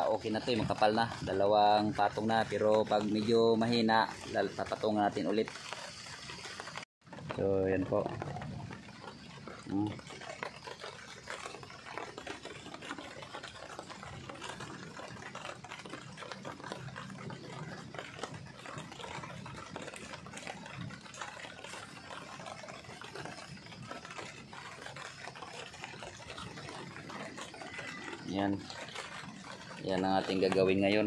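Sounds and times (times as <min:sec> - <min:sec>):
light rain pattering: 0:00.0 - 0:31.0.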